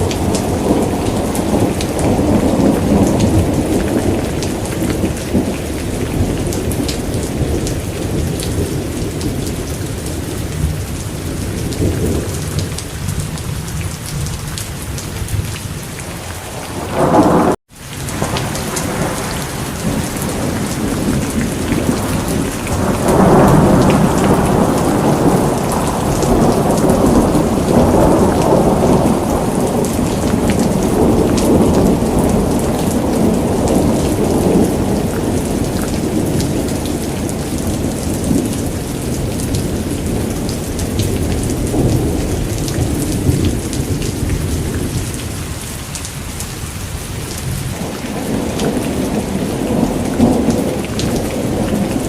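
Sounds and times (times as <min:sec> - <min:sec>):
rolling thunder: 0:00.0 - 0:52.0
steady rain: 0:00.0 - 0:52.0.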